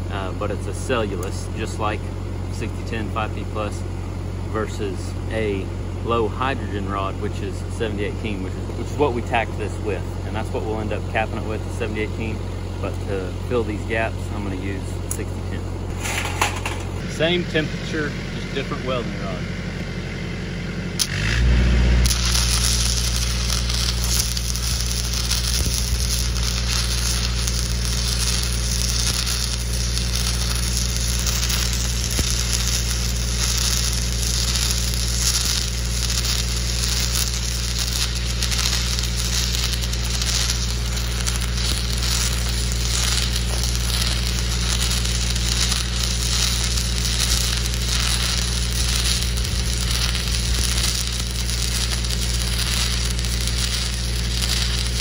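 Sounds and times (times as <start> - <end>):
welding arc crackling and sizzling: 0.0 - 20.0, 20.9 - 55.0
welder engine humming: 0.0 - 55.0.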